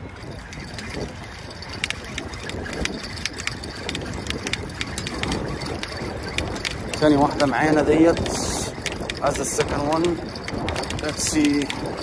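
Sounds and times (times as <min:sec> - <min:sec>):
fishing reel ticking: 0:00.0 - 0:12.0
wind rumble on microphone: 0:00.0 - 0:12.0.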